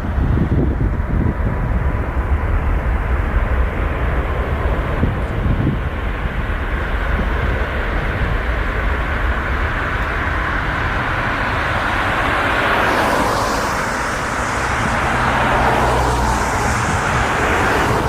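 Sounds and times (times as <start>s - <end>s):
jet airliner passing: 0.0s - 18.0s
low rumble: 0.0s - 18.0s.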